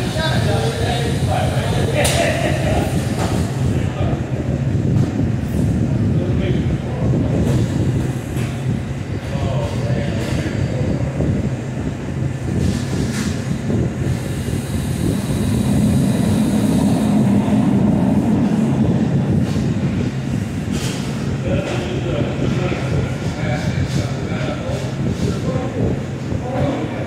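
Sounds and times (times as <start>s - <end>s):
exhaust fans rumbling: 0.0s - 27.0s.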